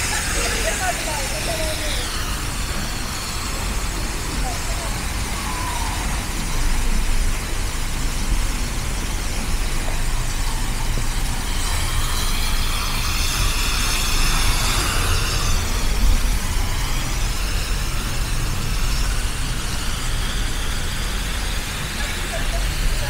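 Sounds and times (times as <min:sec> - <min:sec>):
traffic engines rumbling: 0:00.0 - 0:23.0
vehicle passing with tyre hiss: 0:00.0 - 0:23.0.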